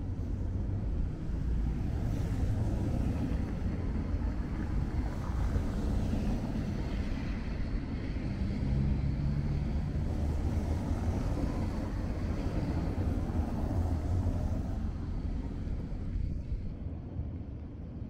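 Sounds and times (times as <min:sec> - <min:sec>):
cars passing on wet road: 0:00.0 - 0:16.8
low traffic rumble: 0:00.0 - 0:18.0.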